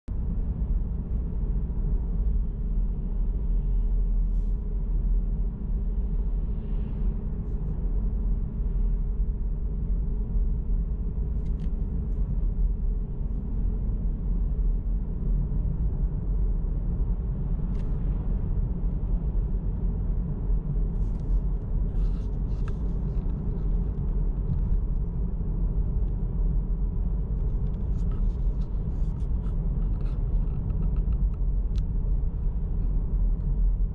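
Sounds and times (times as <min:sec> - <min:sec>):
car engine and road noise: 0:00.1 - 0:33.9.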